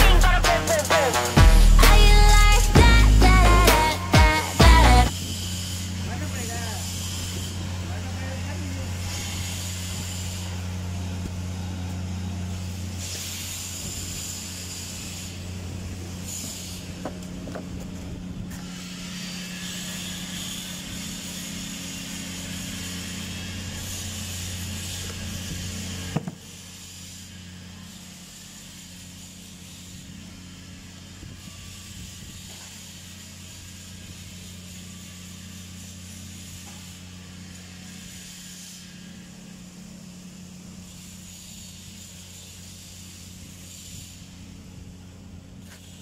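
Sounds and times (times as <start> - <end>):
low machine hum with hiss: 0.0 - 46.0.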